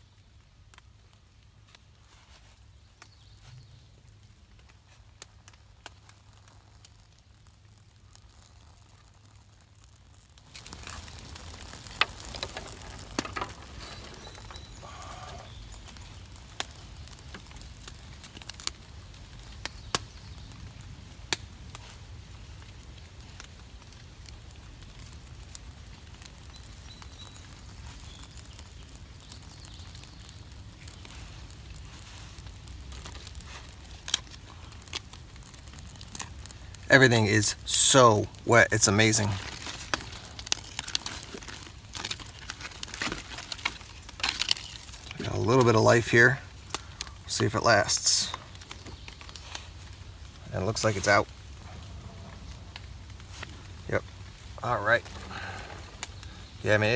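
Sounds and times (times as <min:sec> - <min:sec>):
twigs crackling in fire: 0:00.0 - 0:56.9
fire hissing: 0:01.0 - 0:56.9.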